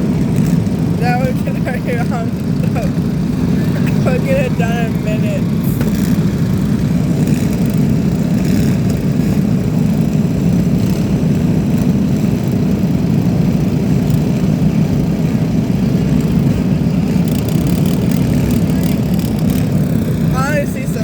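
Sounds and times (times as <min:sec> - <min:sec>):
lawn mower engines droning: 0:00.0 - 0:21.0.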